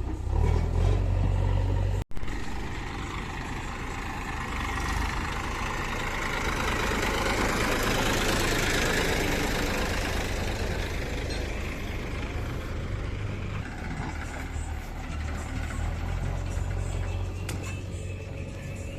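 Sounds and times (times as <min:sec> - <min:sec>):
heavy vehicle engine running: 0:00.0 - 0:18.9.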